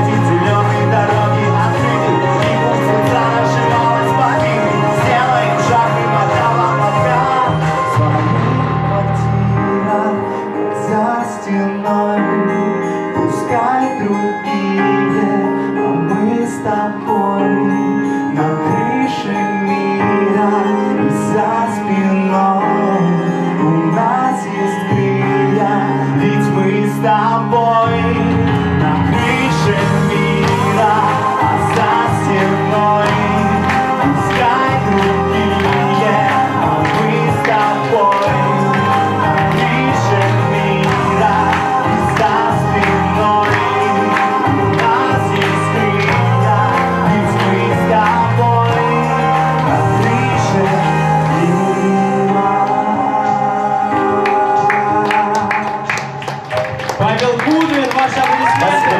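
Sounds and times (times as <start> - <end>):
pop-rock band music: 0.0 - 58.9.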